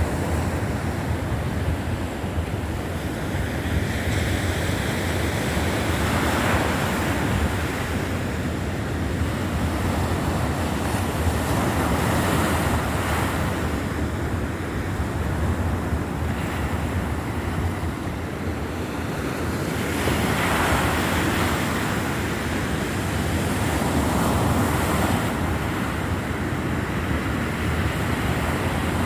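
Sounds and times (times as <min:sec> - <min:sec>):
surf breaking on a beach: 0:00.0 - 0:29.0
wind rumbling on microphone: 0:00.0 - 0:29.0.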